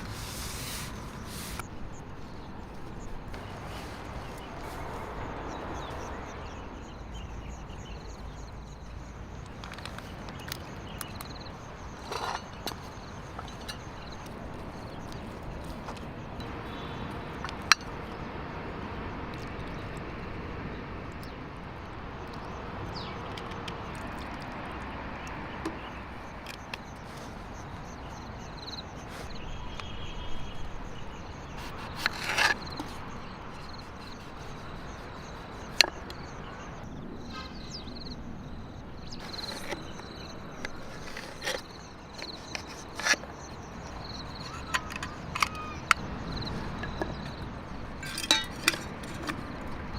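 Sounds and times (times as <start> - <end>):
insect tone: 0.0 - 49.9.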